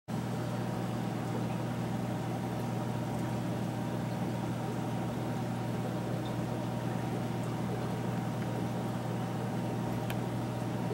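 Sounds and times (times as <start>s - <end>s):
aquarium pumps humming: 0.1s - 10.9s.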